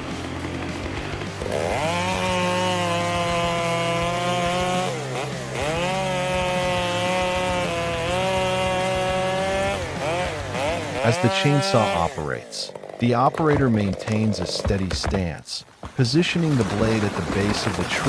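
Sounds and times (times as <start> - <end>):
chainsaw cutting wood: 0.0 - 15.2.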